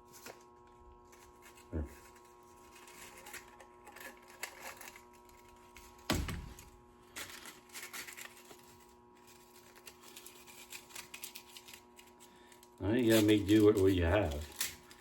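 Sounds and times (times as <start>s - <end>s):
small tools clicking and clattering: 1.1s - 15.0s.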